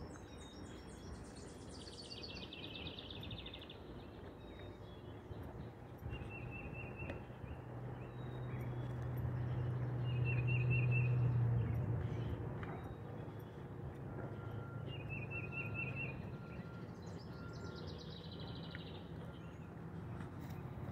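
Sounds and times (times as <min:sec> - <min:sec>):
songbirds calling: 0:00.0 - 0:20.9.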